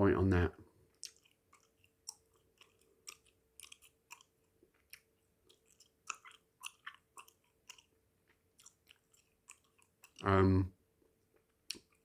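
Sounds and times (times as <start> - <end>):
gum chewing mouth smacks: 0.9 - 10.2, 11.4 - 12.0.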